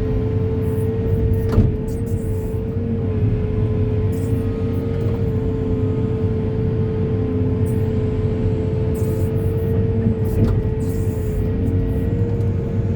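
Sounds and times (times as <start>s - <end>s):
diesel engine rumbling under load: 0.0s - 12.9s.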